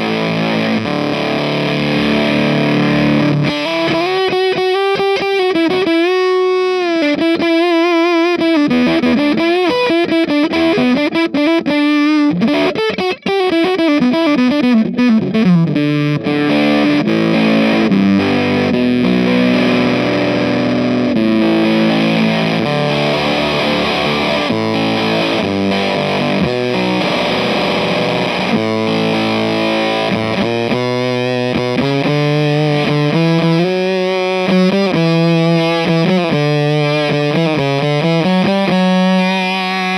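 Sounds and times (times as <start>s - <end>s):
fuzz electric guitar: 0.0s - 39.9s.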